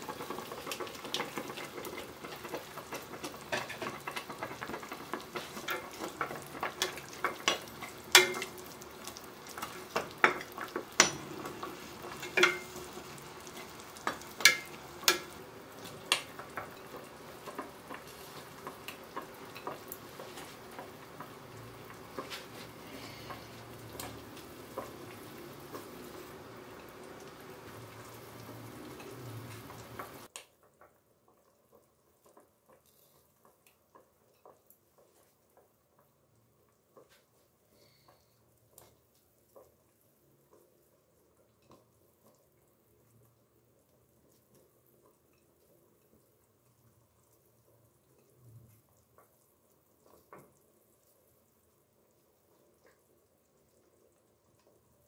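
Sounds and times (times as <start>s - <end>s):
broth simmering hiss: 0.0s - 55.0s.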